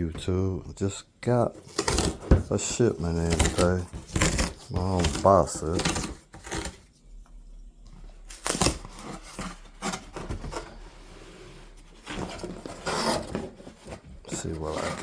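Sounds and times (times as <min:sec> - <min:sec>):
cardboard scraping and tearing: 0:01.5 - 0:06.9, 0:08.2 - 0:15.0.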